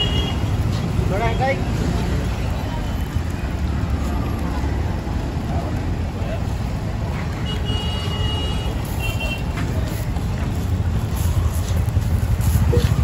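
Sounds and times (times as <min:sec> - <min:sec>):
low rumble of street noise: 0:00.0 - 0:13.0.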